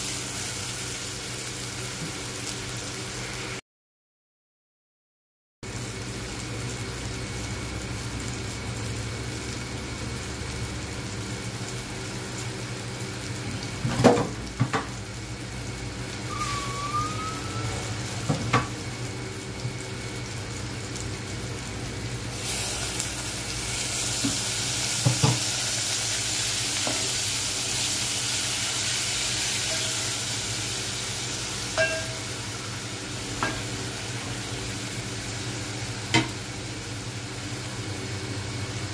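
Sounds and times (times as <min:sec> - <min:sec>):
vegetables sizzling in oil: 0:00.0 - 0:03.6, 0:05.7 - 0:38.9.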